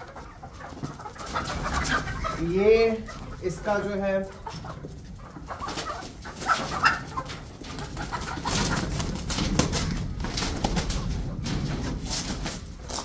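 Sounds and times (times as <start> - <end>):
hens calling: 0.0 - 13.0
rustling and scuffling: 0.0 - 13.0.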